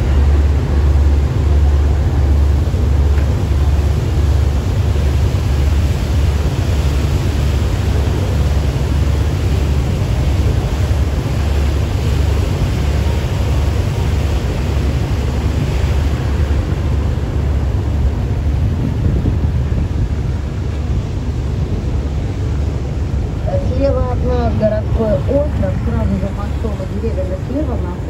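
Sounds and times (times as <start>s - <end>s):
boat engine: 0.0s - 28.0s
water noise: 0.0s - 28.0s
wind rumble on microphone: 0.0s - 28.0s.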